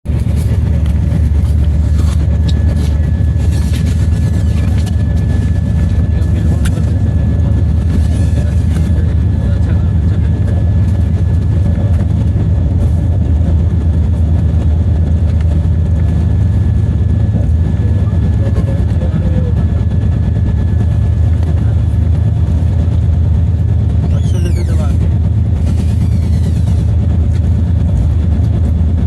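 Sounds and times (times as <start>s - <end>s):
car driving with low drone: 0.0s - 29.0s.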